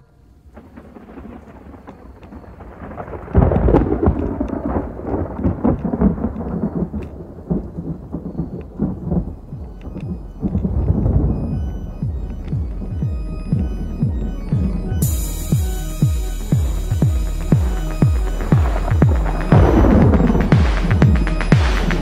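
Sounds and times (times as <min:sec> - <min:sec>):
falling rain: 0:00.0 - 0:22.0
thunder rumbling: 0:00.0 - 0:22.0.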